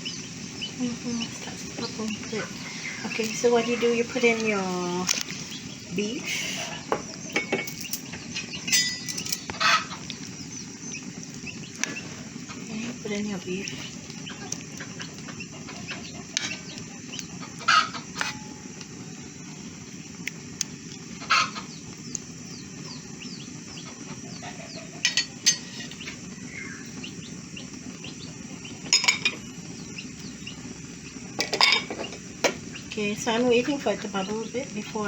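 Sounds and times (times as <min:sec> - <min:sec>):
food bubbling in a wok: 0:00.0 - 0:33.1.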